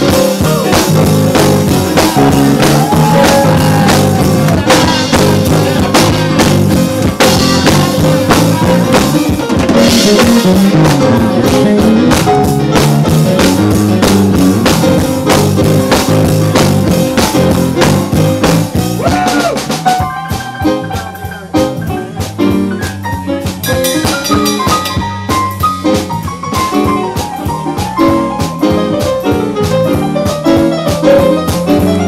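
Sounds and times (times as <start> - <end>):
drum kit: 0.0 - 32.0
electric bass guitar: 0.0 - 32.0
electric keyboard chords: 0.0 - 32.0.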